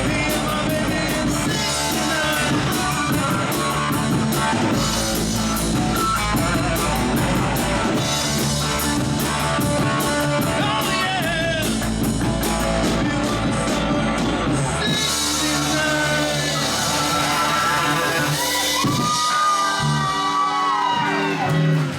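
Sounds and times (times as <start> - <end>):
bass guitar: 0.0 - 21.9
drum kit with cymbals: 0.0 - 21.9
electric guitar: 0.0 - 21.9.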